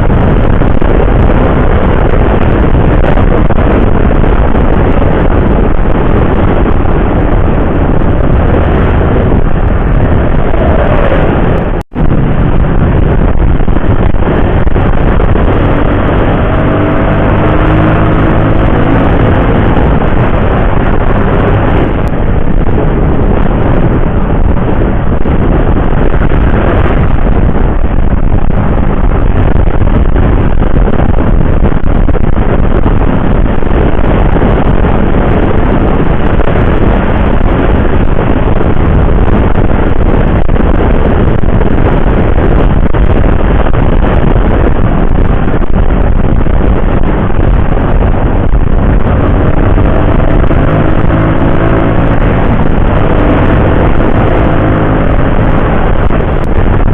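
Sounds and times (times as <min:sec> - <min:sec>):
motorcycle engine: 0:00.0 - 0:56.9
wind rush on microphone: 0:00.0 - 0:56.9.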